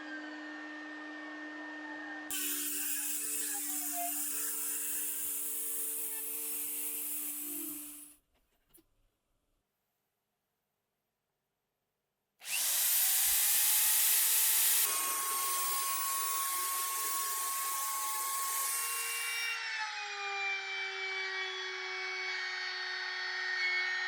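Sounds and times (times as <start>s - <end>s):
router motor whining: 0.0s - 8.1s, 12.4s - 24.0s.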